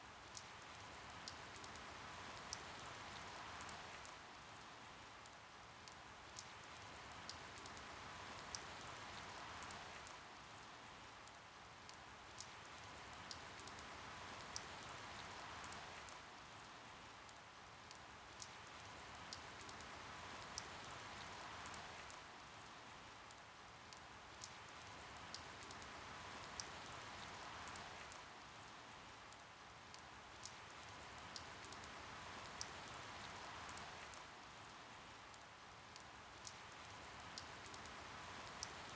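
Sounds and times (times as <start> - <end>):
faint rain hiss: 0.0 - 38.9.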